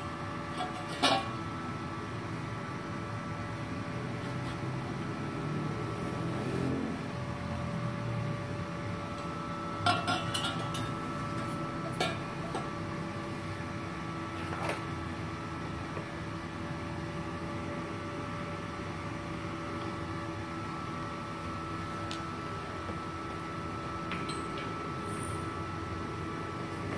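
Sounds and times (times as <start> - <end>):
welder cooling fan humming: 0.0 - 26.9.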